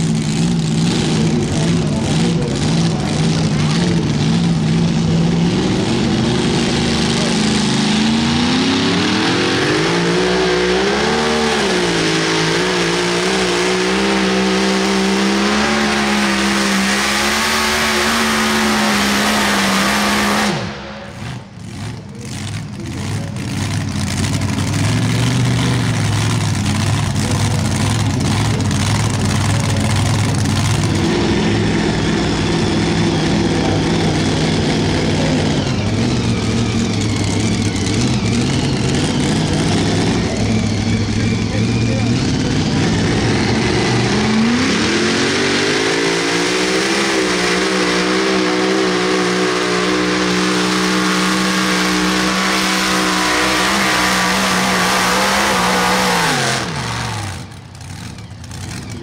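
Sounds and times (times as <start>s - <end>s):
engine idling: 0.0s - 59.0s
tractor engine running flat out: 0.0s - 59.0s.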